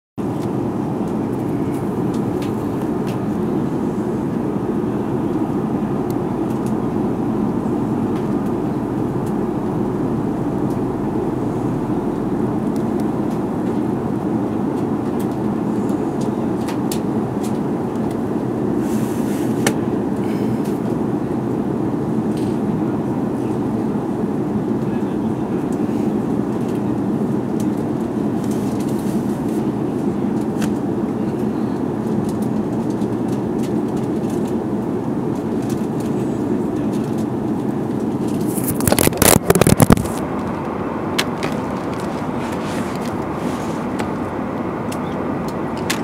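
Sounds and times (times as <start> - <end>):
airliner cabin drone: 0.2 - 46.0.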